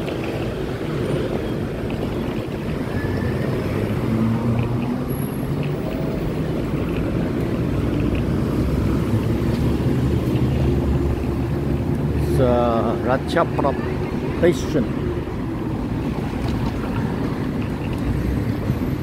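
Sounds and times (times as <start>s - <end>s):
motorbike and car engines rumbling: 0.0s - 19.0s.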